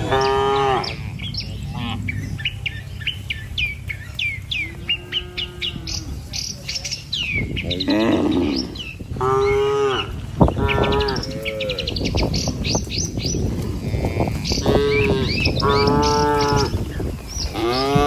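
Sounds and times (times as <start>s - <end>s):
cattle mooing: 0.0s - 3.3s, 4.6s - 6.4s, 7.6s - 18.0s
birds chirping: 0.0s - 18.0s.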